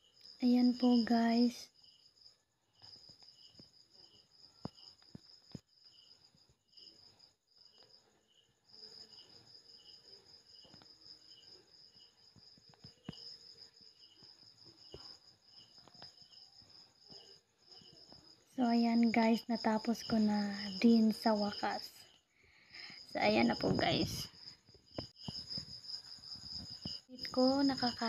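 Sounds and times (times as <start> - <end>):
crickets trilling: 0.0 - 28.0
lower cricket chirp: 0.0 - 28.0.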